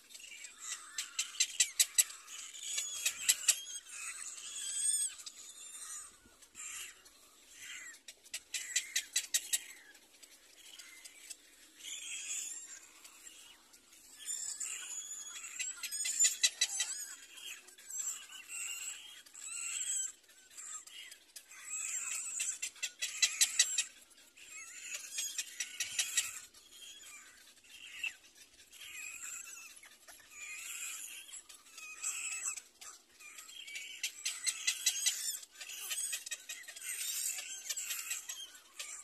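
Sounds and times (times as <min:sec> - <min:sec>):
chicks begging with high calls: 0:00.1 - 0:39.0.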